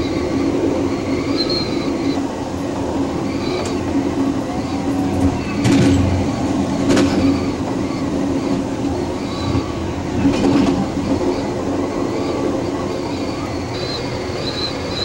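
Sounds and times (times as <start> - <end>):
train drone: 0.0 - 15.0
wheels clacking over rail joints: 0.0 - 15.0.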